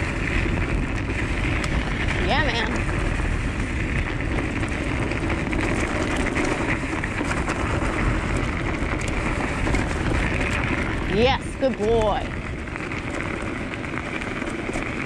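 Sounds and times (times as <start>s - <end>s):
scooter tyres rolling on crunchy snow: 0.0s - 15.0s
wind rumble on microphone: 0.0s - 15.0s.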